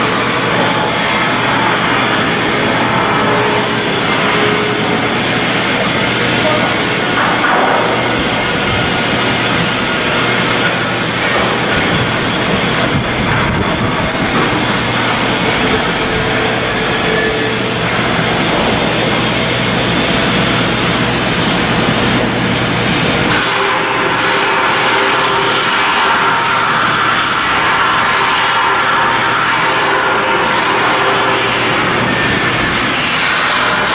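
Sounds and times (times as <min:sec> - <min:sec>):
industrial machinery running: 0:00.0 - 0:33.9.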